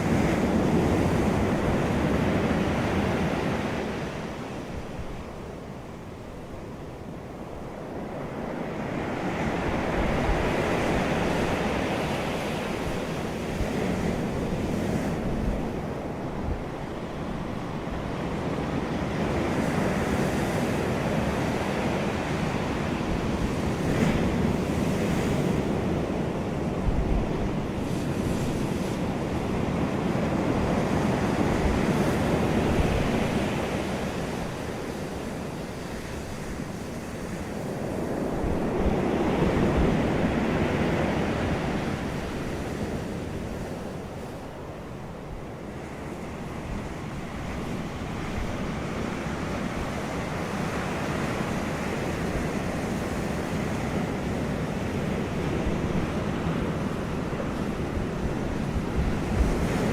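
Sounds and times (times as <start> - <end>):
ocean waves surging and washing: 0.0 - 59.9.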